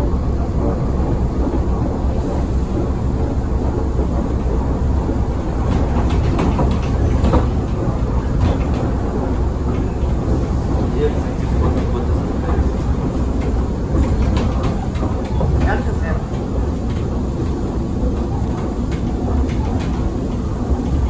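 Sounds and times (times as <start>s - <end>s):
bus running and road rumble: 0.0s - 21.0s
body rattles and knocks: 0.5s - 21.0s.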